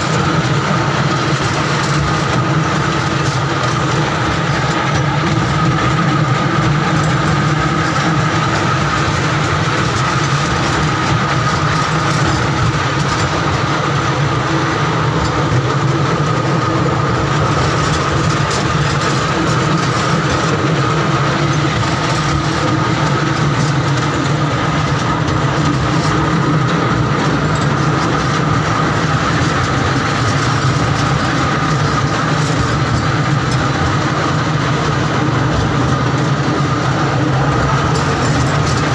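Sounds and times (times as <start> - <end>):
mini train running on track: 0.0 - 38.9.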